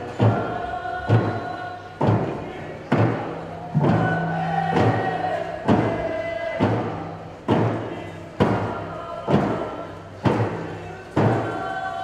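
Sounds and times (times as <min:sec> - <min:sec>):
group singing: 0:00.0 - 0:12.0.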